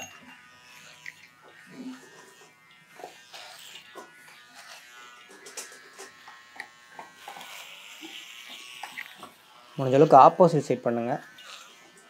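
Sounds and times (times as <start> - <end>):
hair trimmer buzzing: 0.0 - 12.0.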